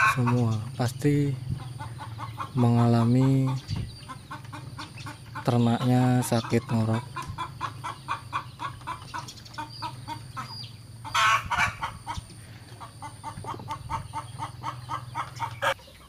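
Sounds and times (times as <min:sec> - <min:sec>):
steady low hum: 0:00.0 - 0:15.7
chickens clucking: 0:00.0 - 0:16.0.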